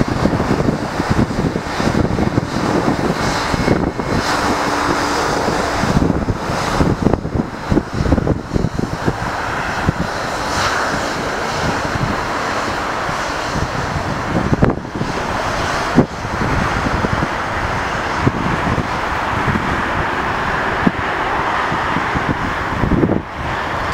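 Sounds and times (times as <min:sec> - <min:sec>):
distant jet engines running: 0:00.0 - 0:23.9
wind buffeting microphone: 0:00.0 - 0:23.9.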